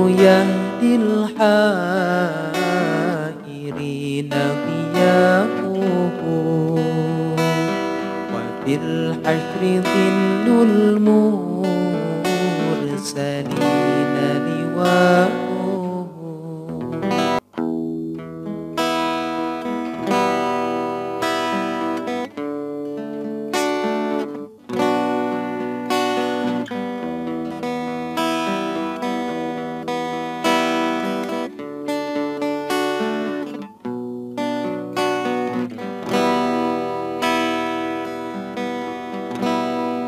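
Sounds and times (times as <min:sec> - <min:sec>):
plucked string instrument strumming: 0:00.0 - 0:40.0.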